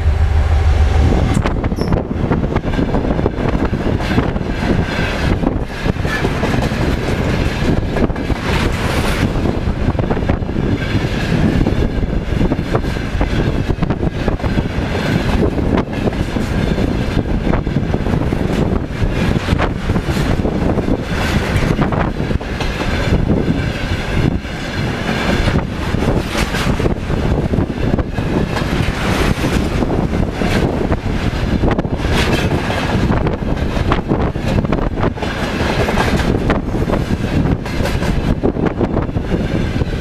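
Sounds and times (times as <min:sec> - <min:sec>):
steel wheels rumbling on rails: 0:00.0 - 0:40.0
wheels clickety-clack: 0:02.6 - 0:09.6, 0:10.7 - 0:40.0.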